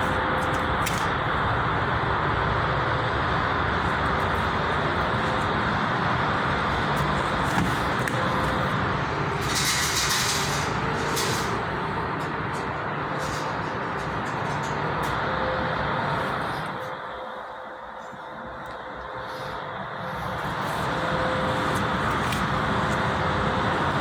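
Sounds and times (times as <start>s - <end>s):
vehicle noise: 0.0s - 24.0s.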